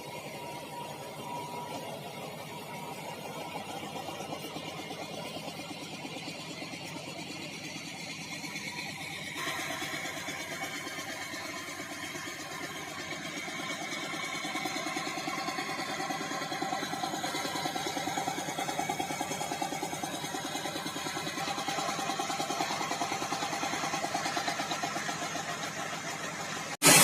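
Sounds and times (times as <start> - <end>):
engine running with pulsing beat: 0.0 - 27.0.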